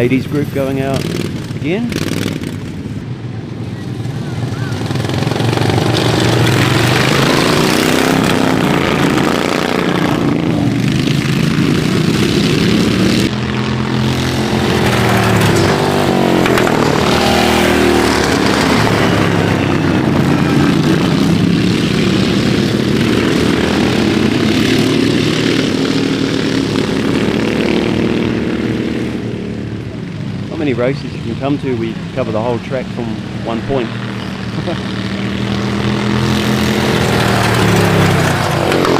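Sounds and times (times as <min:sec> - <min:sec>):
racing lawnmower engines passing: 0:00.0 - 0:38.9.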